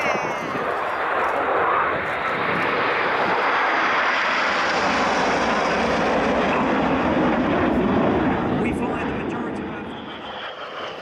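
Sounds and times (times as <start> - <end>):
jets passing overhead: 0.0 - 11.0.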